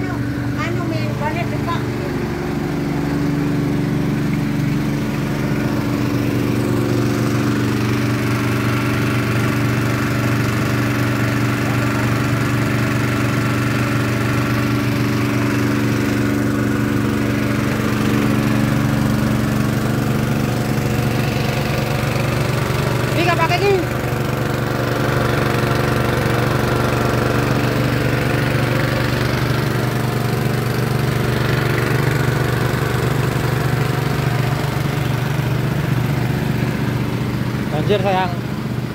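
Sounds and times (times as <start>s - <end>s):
water pump petrol engine running: 0.0s - 38.9s.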